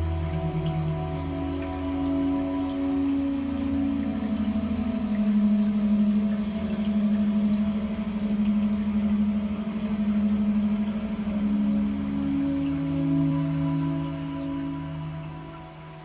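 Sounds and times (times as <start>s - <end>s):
synthesizer wavering note: 0.0s - 16.0s.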